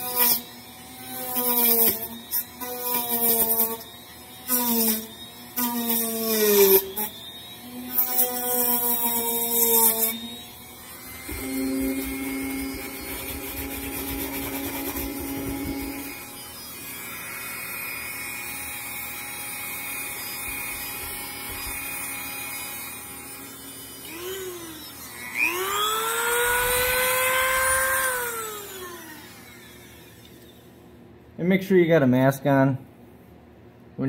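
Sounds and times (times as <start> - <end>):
rotary tool whining: 0.0 - 30.9.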